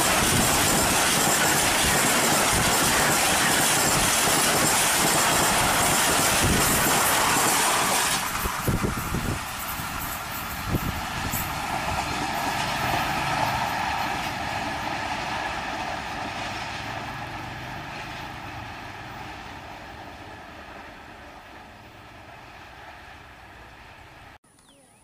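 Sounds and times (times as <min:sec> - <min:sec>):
train wheels on rails: 0:00.0 - 0:24.4.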